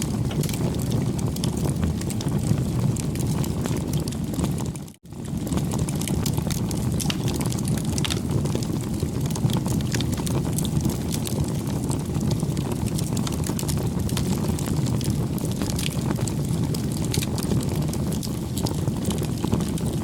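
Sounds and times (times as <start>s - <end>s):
burning wood crackling and popping: 0.0s - 20.0s
campfire flames rushing: 0.0s - 20.0s.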